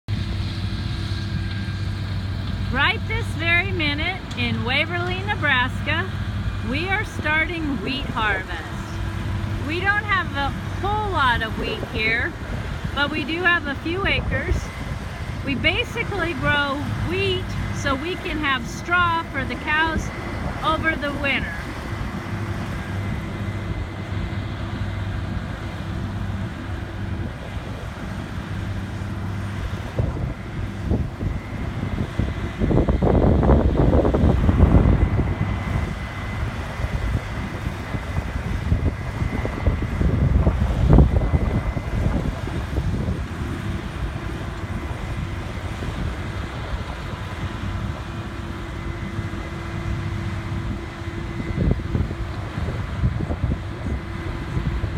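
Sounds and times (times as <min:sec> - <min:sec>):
harvester engine running: 0:00.1 - 0:54.9.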